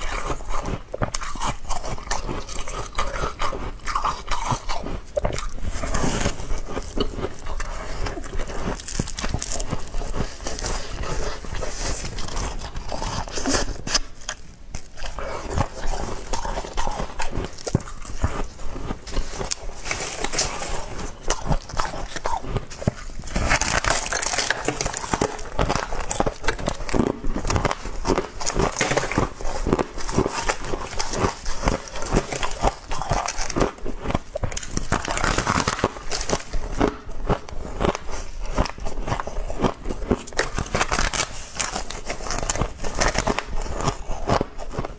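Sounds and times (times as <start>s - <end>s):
chewing and crunching frost: 0.0s - 44.9s.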